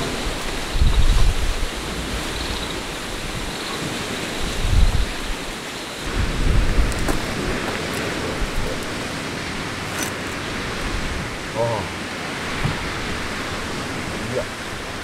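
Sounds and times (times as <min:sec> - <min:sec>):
wind blowing across microphone: 0:00.0 - 0:15.0
wind gusts buffeting microphone: 0:00.0 - 0:15.0.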